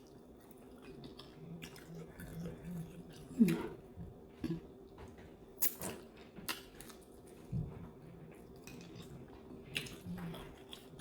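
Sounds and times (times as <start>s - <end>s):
light chewing: 0.0s - 11.0s.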